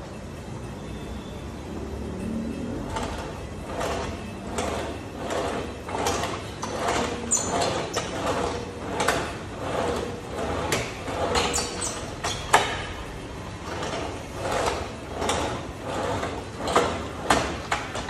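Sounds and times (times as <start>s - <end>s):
carriage sliding on steel rails: 2.0s - 18.0s.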